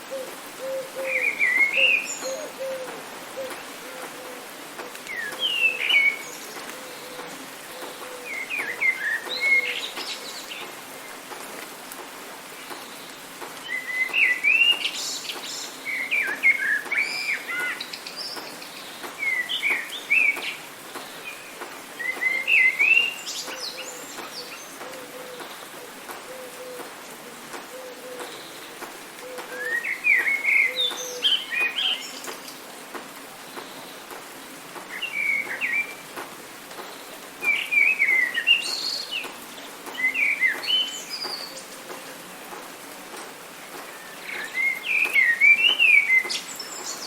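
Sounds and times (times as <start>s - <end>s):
rain hiss: 0.0s - 47.0s
songbirds chirping: 0.0s - 47.0s.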